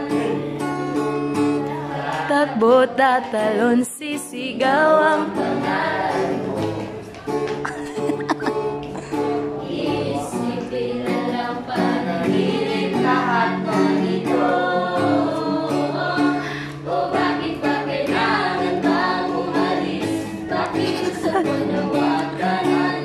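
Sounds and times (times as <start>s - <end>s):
group of voices singing: 0.0s - 7.5s, 8.2s - 23.0s
acoustic guitar strumming: 0.0s - 23.0s.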